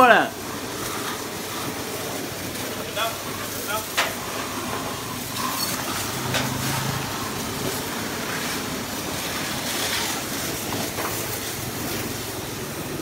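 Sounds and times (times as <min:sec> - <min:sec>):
pressure washer spraying: 0:00.0 - 0:13.0.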